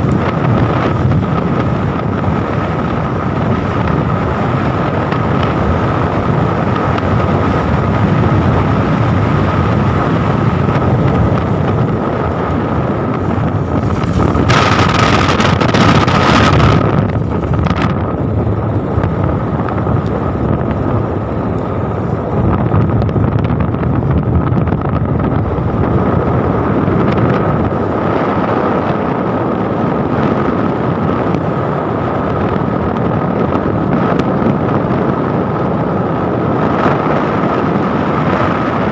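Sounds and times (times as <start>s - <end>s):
road noise: 0.0s - 38.9s
vehicle engine: 0.0s - 38.9s
wind rushing over microphone: 0.0s - 38.9s.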